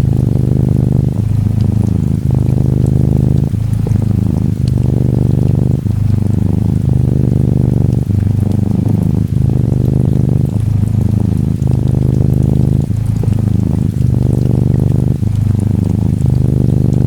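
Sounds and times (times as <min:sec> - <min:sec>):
faint gentle rain: 0:00.0 - 0:17.0
kitten purring: 0:00.0 - 0:17.0.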